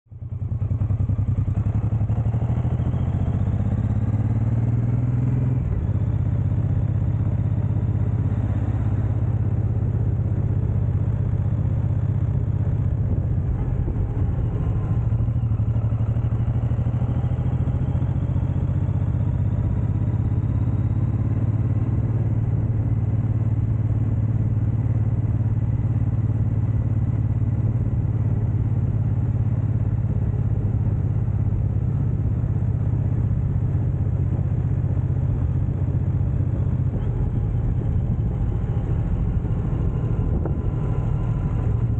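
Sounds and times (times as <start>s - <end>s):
motorcycle engine running: 0.1s - 41.9s.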